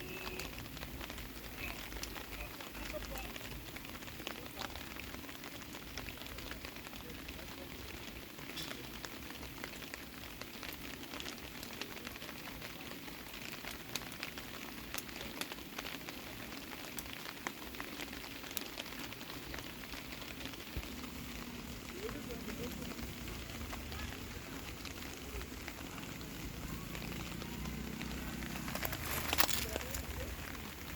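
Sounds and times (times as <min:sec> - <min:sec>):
sharp ticks and pops: 0:00.0 - 0:30.9
steady rain hiss: 0:00.0 - 0:30.9.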